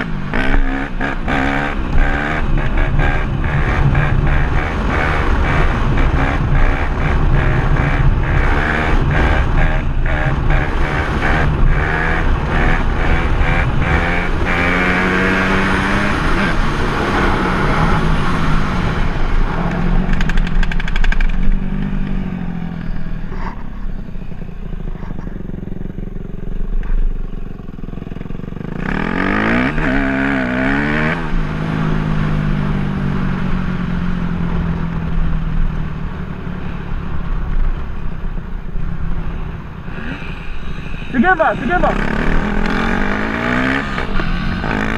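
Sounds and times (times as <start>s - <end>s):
dirt bike engine revving: 0.0s - 26.5s, 27.2s - 32.6s, 39.1s - 44.9s.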